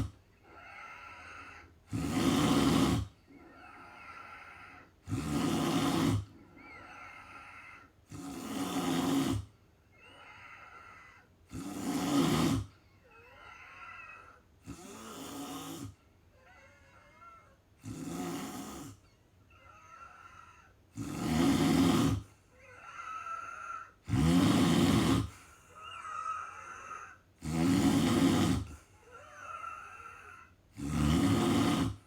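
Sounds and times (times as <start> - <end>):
person snoring: 0.0 - 32.0
quiet breathing: 0.0 - 32.0.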